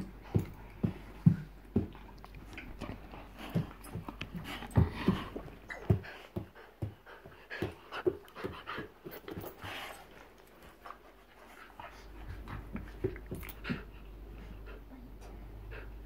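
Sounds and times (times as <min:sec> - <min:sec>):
bumps and thumps of tussling dogs: 0:00.0 - 0:14.8
dogs breathing hard: 0:00.0 - 0:16.0.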